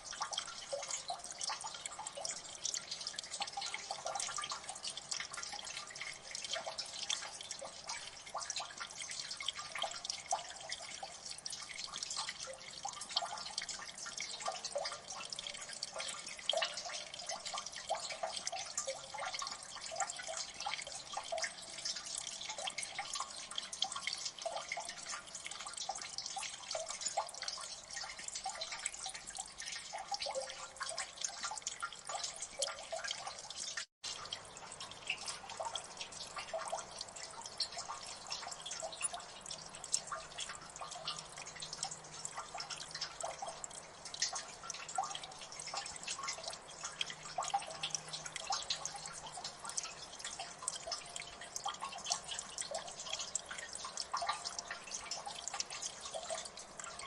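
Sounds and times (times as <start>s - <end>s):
water dripping into water: 0.0s - 57.0s.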